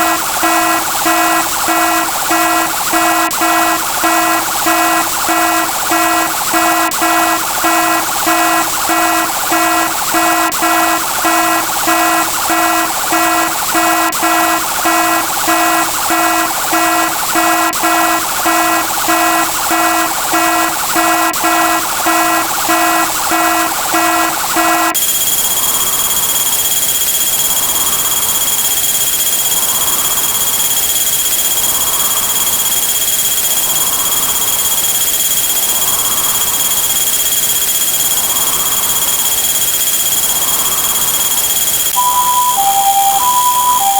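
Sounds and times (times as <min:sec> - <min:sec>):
repeating alarm beep: 0:00.0 - 0:43.9.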